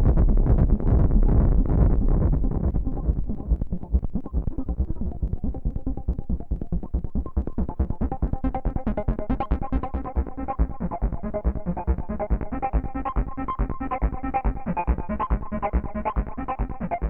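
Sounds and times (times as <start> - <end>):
pulsing bass: 0.0 - 17.0
synthesizer sequenced pattern: 0.0 - 17.0.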